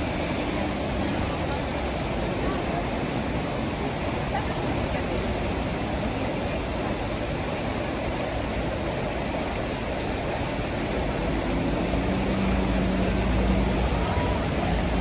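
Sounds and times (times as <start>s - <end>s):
fountain water splashing: 0.0s - 15.0s
large vehicle engine hum: 0.0s - 15.0s
street traffic: 0.0s - 15.0s.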